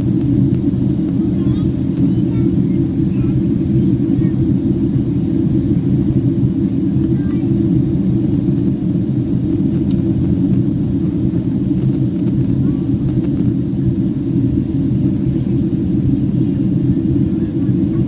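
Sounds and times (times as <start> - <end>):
airflow over fuselage: 0.0 - 18.0
airliner cabin engine rumble: 0.0 - 18.0.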